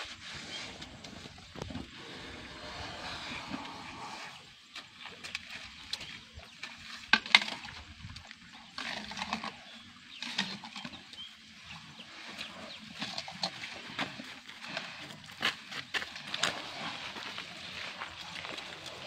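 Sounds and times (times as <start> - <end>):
elephants crunching and cracking: 0.0 - 19.0.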